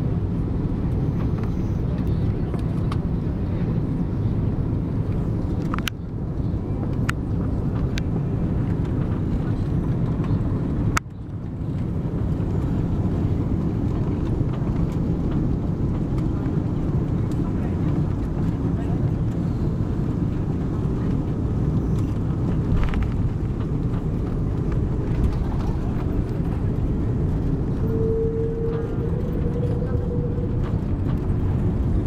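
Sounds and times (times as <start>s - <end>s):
jet engines rumbling in cabin: 0.0s - 32.0s.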